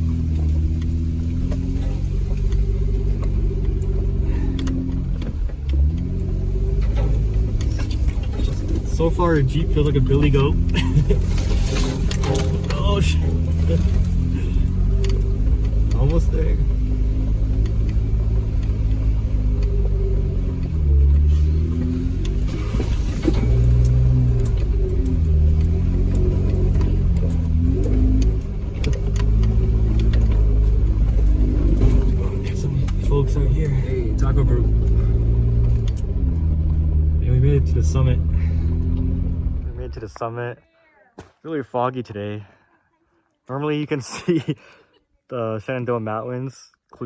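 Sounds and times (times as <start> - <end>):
engine running at low revs: 0.0 - 40.0.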